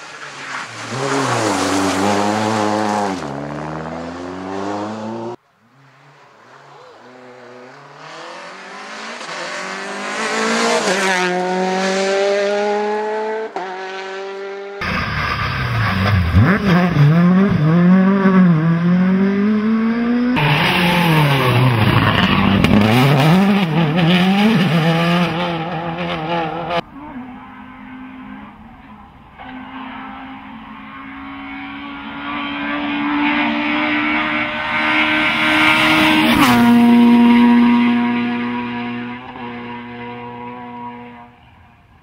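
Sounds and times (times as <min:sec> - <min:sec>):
rally car engines revving: 0:00.0 - 0:41.7.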